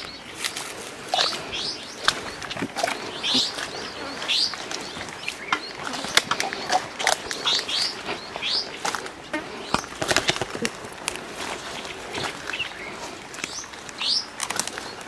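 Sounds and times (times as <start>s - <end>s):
birds chirping: 0.0s - 15.0s
footsteps crunching through dry grass: 0.0s - 15.0s
twigs crackling: 0.0s - 15.0s.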